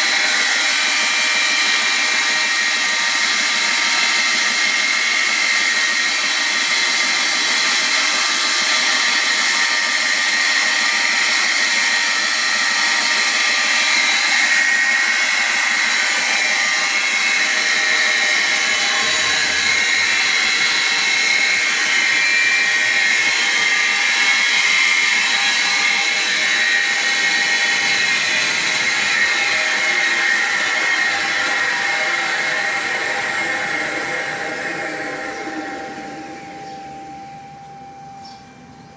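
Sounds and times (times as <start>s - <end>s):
belt grinder whining: 0.0s - 38.2s.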